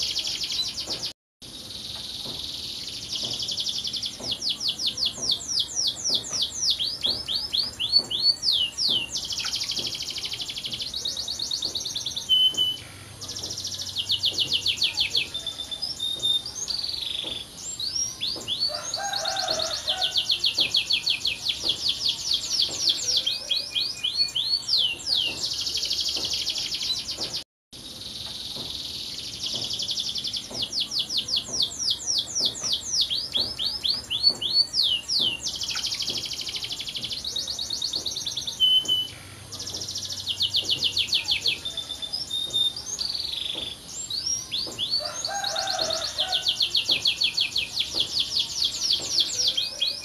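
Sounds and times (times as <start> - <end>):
canary singing trills: 1.7 - 50.0.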